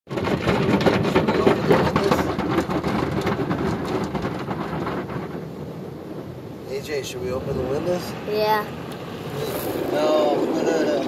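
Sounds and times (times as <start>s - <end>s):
car wash jets spraying car: 0.1s - 11.0s.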